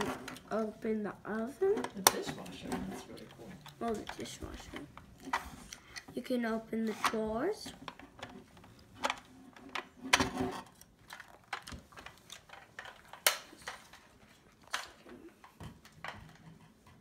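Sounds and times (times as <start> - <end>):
plastic toy clicks and clacks: 1.4 - 6.2, 6.8 - 17.0.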